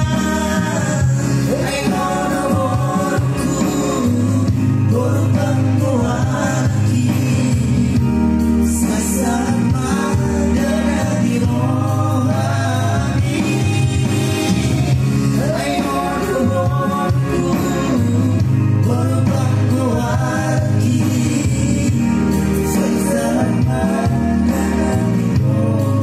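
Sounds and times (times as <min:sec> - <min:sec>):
backing track with bass line: 0:00.0 - 0:26.0
man singing into a microphone: 0:00.0 - 0:26.0.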